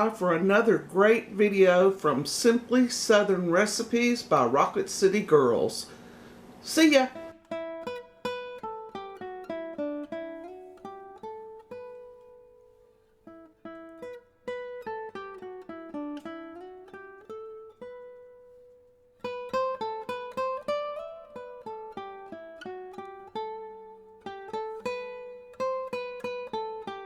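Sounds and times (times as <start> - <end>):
plucked acoustic guitar melody: 0.0 - 27.0.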